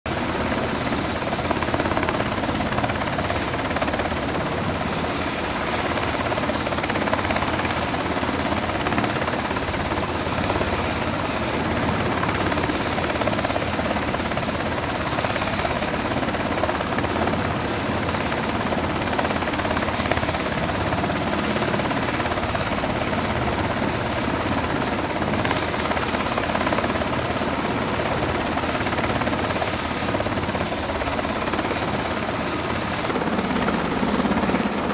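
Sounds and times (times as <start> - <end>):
helicopter engines and rotor rushing: 0.1 - 34.9.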